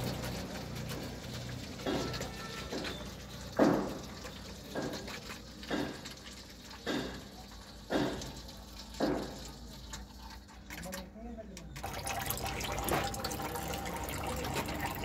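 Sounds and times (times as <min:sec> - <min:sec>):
oil draining in a thin stream: 0:00.0 - 0:15.0.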